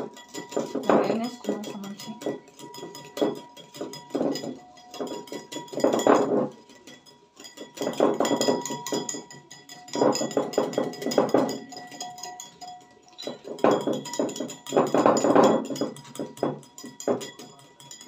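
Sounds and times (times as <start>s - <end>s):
whisk clicking against bowl: 0.0s - 18.0s.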